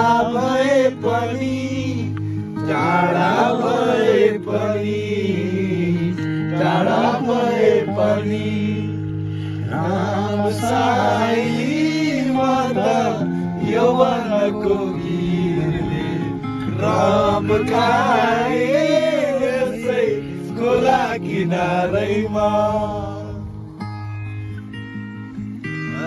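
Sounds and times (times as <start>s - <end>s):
chanted vocal melody: 0.0s - 24.0s.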